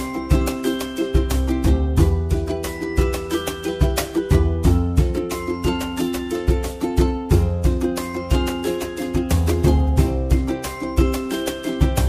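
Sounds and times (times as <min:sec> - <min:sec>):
upbeat ukulele music: 0:00.0 - 0:12.0.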